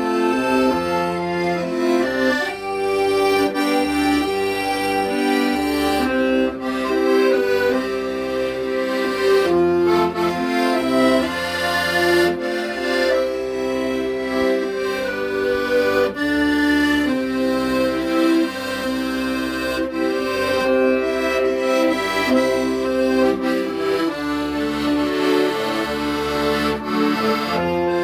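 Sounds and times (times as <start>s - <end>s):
accordion playing slow ballad: 0.0s - 28.0s.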